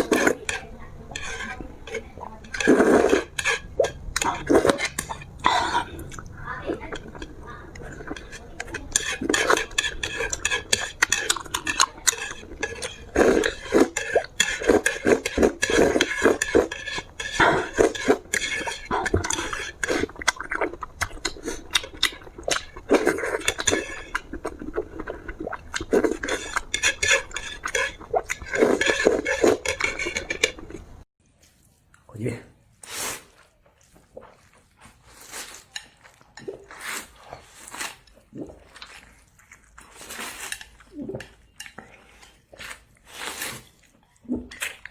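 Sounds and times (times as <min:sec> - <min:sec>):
utensils scraping a bowl: 0:00.0 - 0:31.0, 0:35.1 - 0:38.2, 0:39.9 - 0:42.5
eating noodles: 0:00.0 - 0:32.1, 0:32.8 - 0:44.9.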